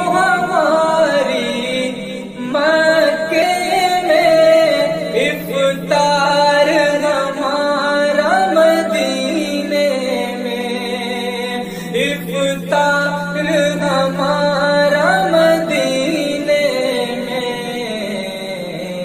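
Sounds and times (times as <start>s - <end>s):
low drone: 0.0s - 19.0s
person singing slow melody: 0.0s - 19.0s.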